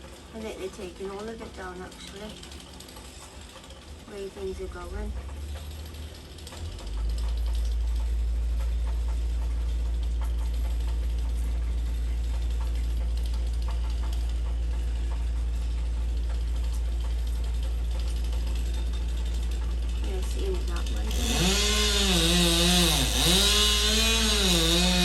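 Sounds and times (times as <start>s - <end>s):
low engine drone: 4.1s - 25.0s.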